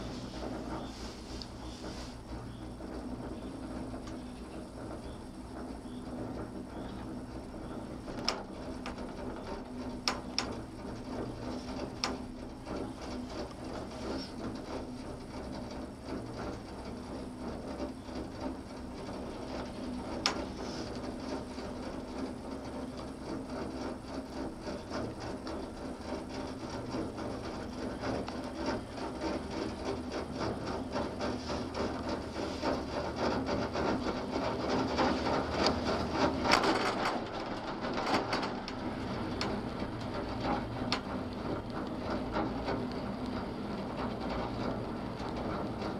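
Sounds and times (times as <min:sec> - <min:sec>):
gondola cabin humming and rattling: 0:00.0 - 0:45.9
sharp creaks and clicks: 0:00.0 - 0:45.9.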